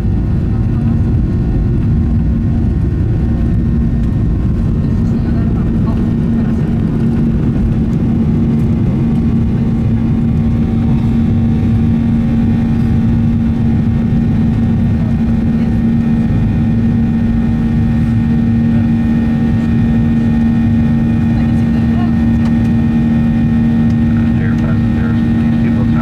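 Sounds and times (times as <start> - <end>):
jet engines at takeoff thrust: 0.0 - 26.0.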